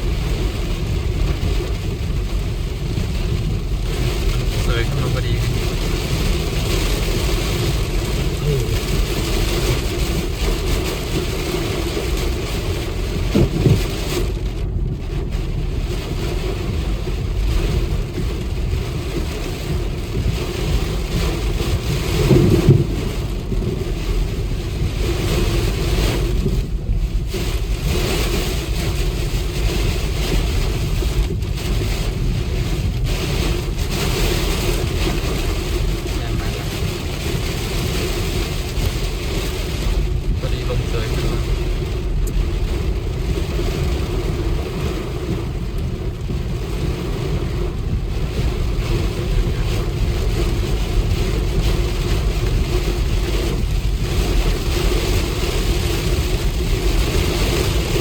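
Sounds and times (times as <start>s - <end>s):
low bumps: 0.0s - 58.0s
rain on microphone: 0.0s - 58.0s
wind noise on microphone: 0.0s - 58.0s.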